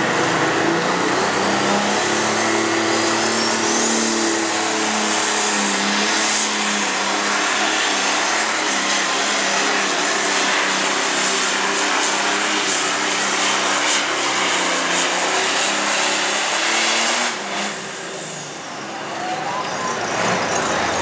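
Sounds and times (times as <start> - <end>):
tractor diesel engine at full throttle: 0.0 - 21.0.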